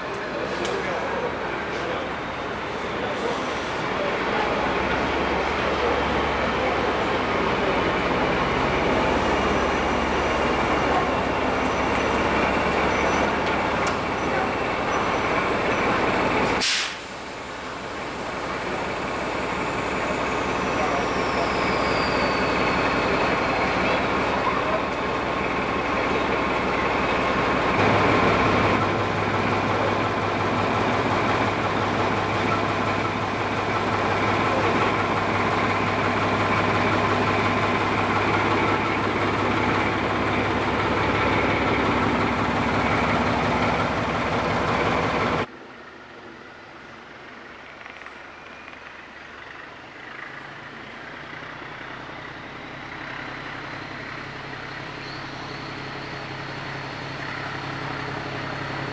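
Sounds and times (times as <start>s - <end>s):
diesel locomotive engine running: 0.0s - 58.9s.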